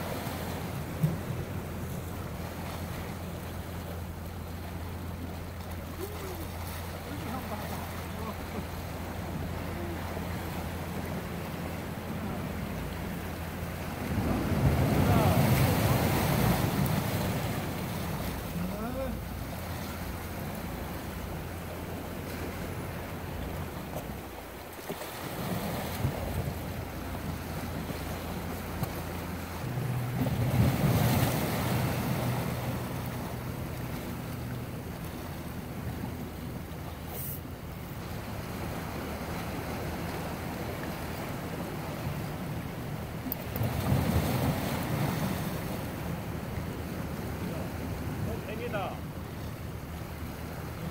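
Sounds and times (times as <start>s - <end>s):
low steady hum: 0.0s - 50.9s
surf on rocky shore: 0.0s - 50.9s.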